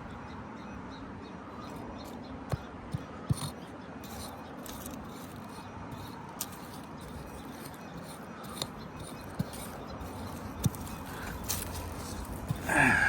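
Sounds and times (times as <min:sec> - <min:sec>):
digging knocks and scrapes: 0:01.6 - 0:13.0.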